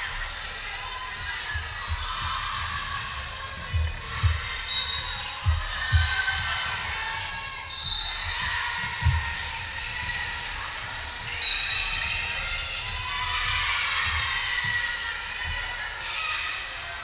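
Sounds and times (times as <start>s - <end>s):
players calling and chatting: 0.0s - 17.0s.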